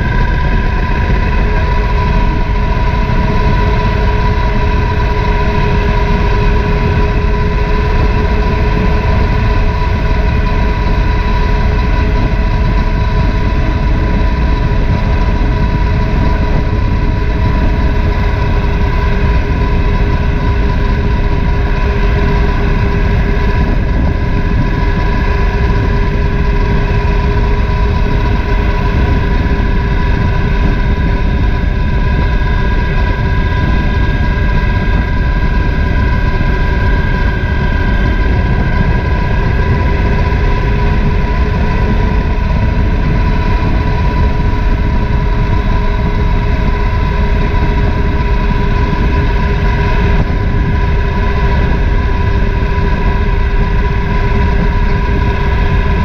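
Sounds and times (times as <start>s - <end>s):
heavy wind noise: 0.0s - 56.0s
motorcycle engine running steadily: 0.0s - 56.0s.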